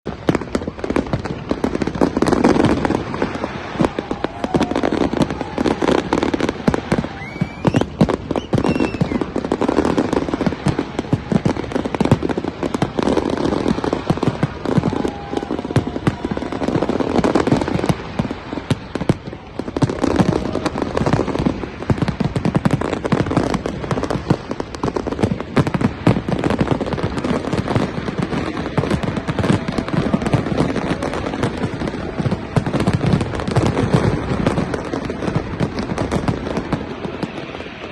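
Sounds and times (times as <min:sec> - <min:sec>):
fireworks bangs and crackling: 0:00.0 - 0:37.9
rising firework whistle: 0:00.1 - 0:37.9.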